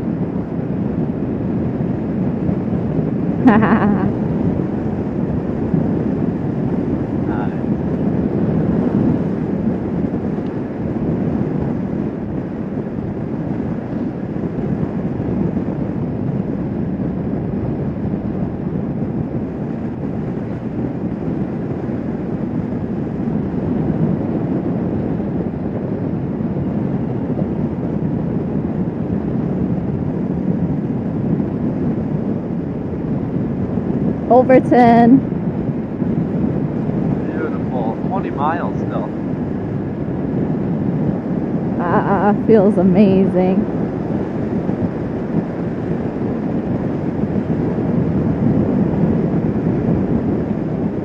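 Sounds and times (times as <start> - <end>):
motorcycle engine drone: 0.0 - 51.0
wind rushing over microphone: 0.0 - 51.0.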